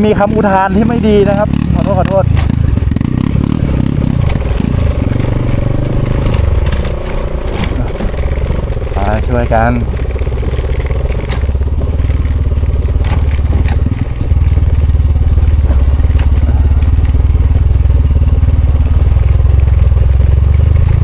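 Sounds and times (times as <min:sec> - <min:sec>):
motorcycle engine rumbling: 0:00.0 - 0:21.0
sharp knocks and clatters: 0:02.0 - 0:21.0.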